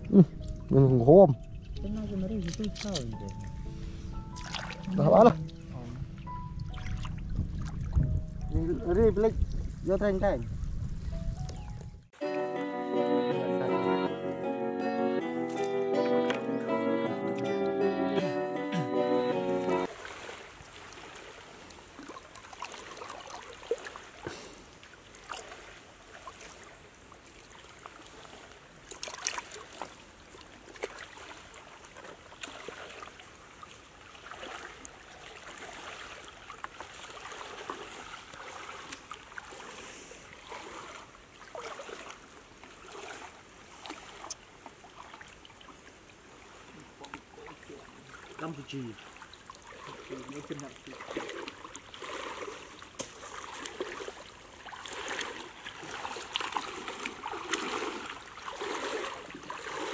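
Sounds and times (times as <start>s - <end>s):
water splashing and trickling: 0.0s - 12.3s, 15.3s - 17.9s, 18.6s - 59.9s.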